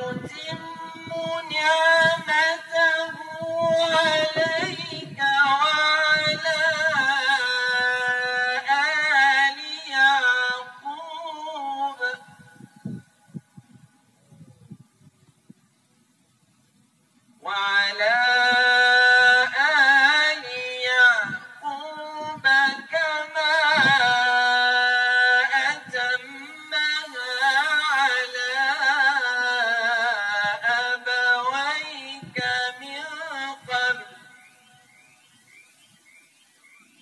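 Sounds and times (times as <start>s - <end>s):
man chanting melodically: 0.0s - 12.7s, 17.4s - 34.8s.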